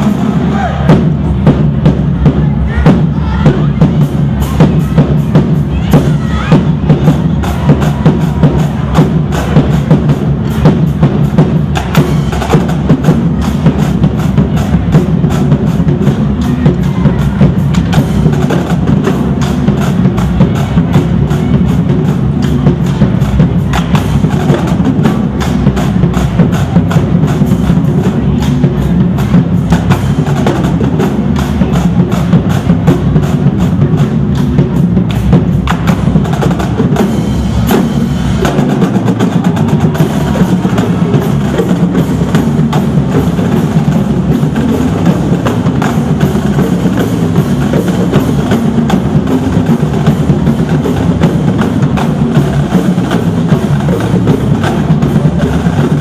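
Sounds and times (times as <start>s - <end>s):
bass drums: 0.0s - 56.0s
snare drums: 0.0s - 56.0s
tenor drums: 0.0s - 56.0s.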